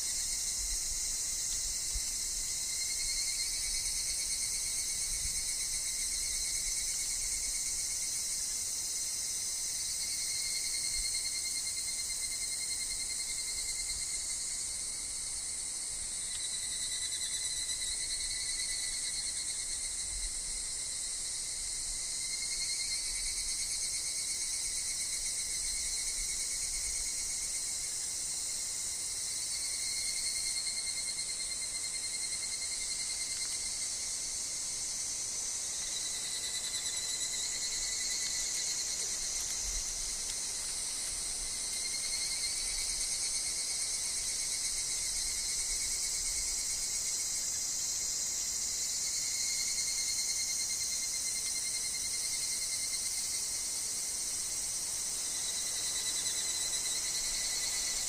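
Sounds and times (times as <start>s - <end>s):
insects chorus with cicadas: 0.0s - 58.0s.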